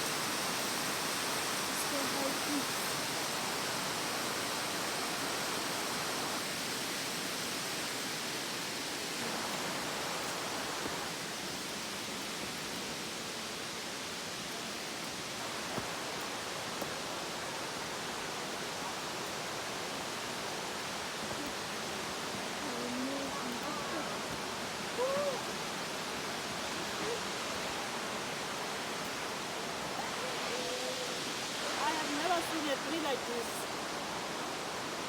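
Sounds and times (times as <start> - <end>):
waterfall rushing hiss: 0.0 - 35.0.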